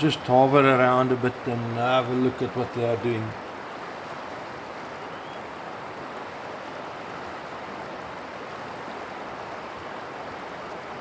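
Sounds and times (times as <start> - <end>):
river water rushing over shallows: 0.0 - 11.0.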